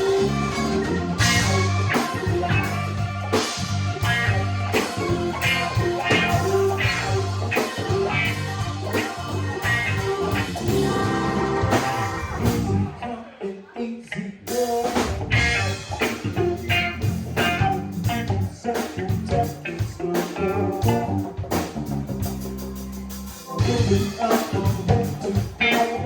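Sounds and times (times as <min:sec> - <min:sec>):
rock band instrumental: 0:00.0 - 0:13.4, 0:14.4 - 0:26.0
electric guitar: 0:00.0 - 0:26.0.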